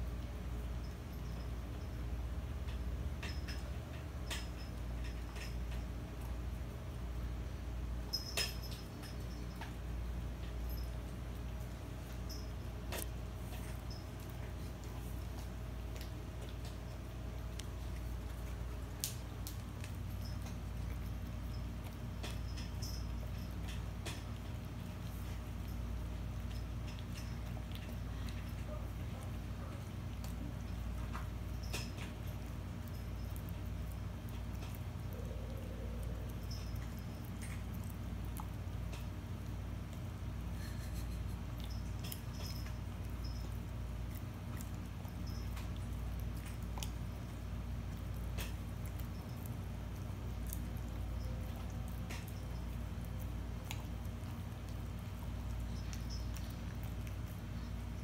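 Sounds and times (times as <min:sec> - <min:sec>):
puppy teeth and claws clicking: 0:00.0 - 0:58.0
steady low hum: 0:00.0 - 0:58.0.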